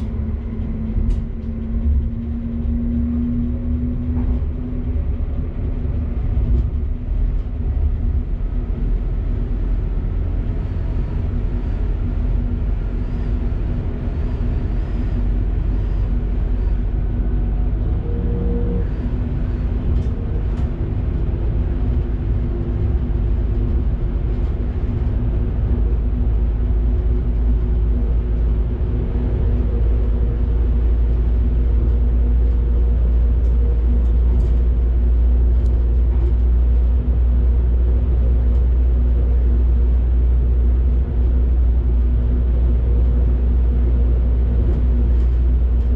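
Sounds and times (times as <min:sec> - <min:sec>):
train rumbling on track: 0:00.0 - 0:45.9.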